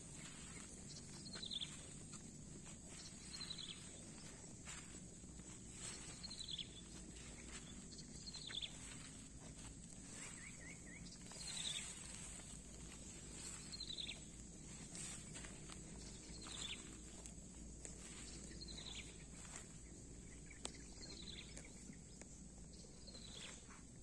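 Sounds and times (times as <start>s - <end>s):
cattle grazing and stepping in grass: 0.0s - 24.0s
high insect drone: 0.0s - 24.0s.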